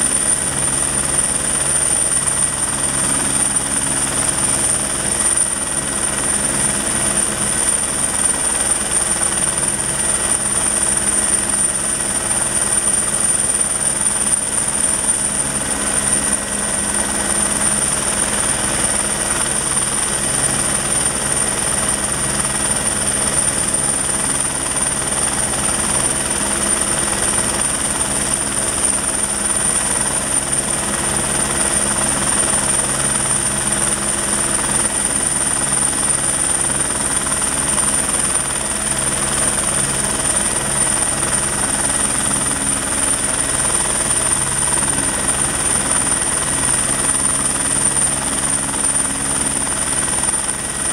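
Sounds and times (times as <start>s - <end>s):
helicopter rotor beat: 0.0s - 50.9s
helicopter turbine whine: 0.0s - 50.9s.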